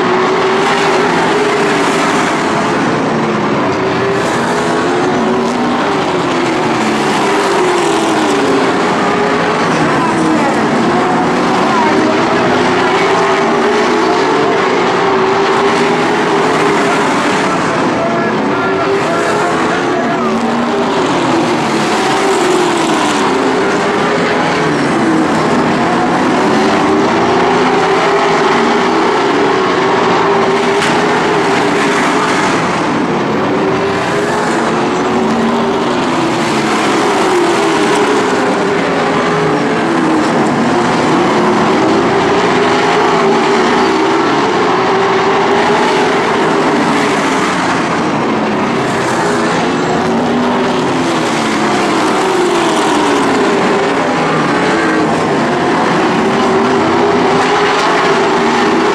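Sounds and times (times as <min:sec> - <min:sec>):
race car engines passing: 0:00.0 - 0:58.9.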